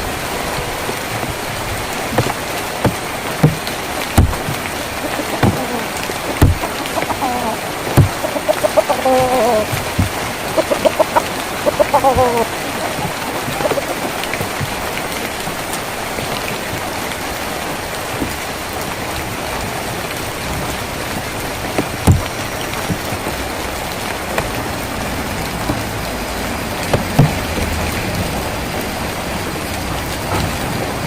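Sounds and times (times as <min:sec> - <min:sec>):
rain drumming on a tin roof: 0:00.0 - 0:31.0.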